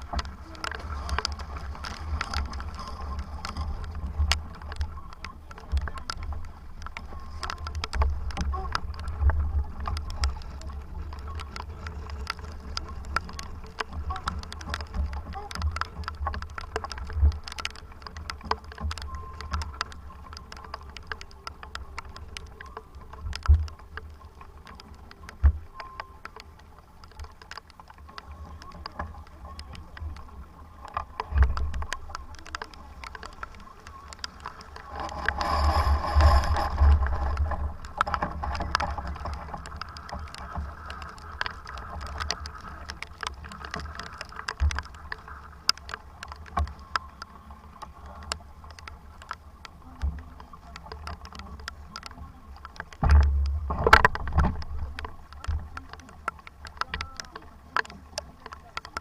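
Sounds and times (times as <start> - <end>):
sharp ticks: 0.0 - 59.0.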